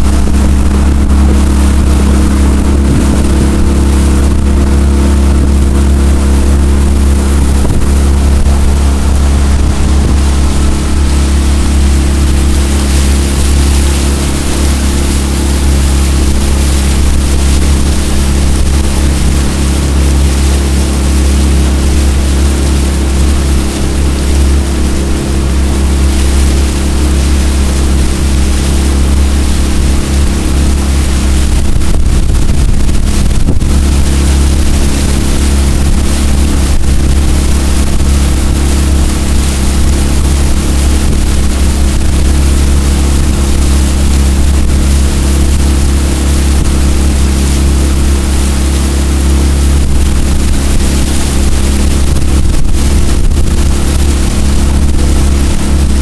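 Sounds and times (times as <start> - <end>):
outboard motor running: 0.0 - 56.0
water rushing: 0.0 - 56.0
wind: 0.0 - 56.0.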